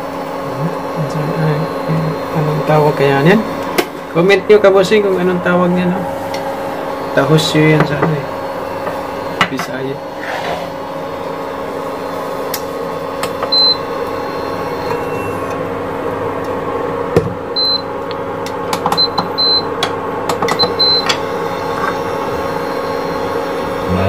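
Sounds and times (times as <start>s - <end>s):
kitchen appliance humming: 0.0s - 24.0s.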